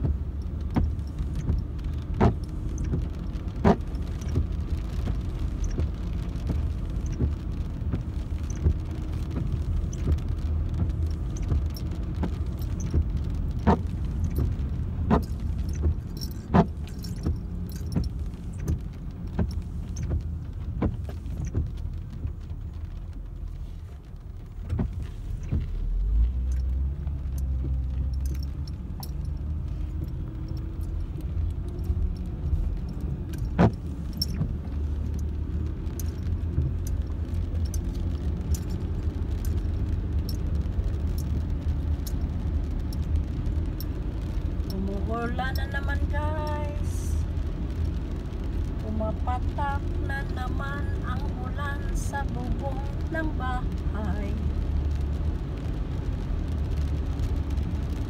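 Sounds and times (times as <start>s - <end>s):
engine and tyres rumbling on wet road: 0.0s - 58.0s.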